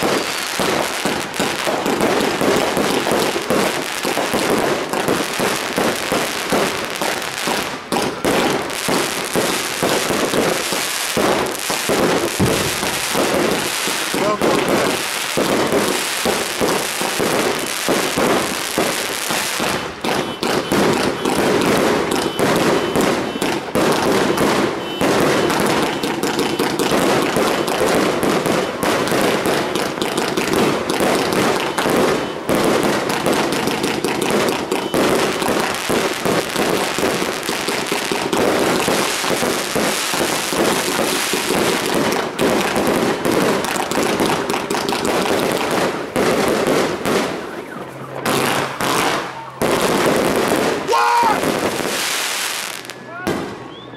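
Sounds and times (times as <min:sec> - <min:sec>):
firework crackling: 0:00.0 - 0:53.9
fireworks banging: 0:00.0 - 0:53.9.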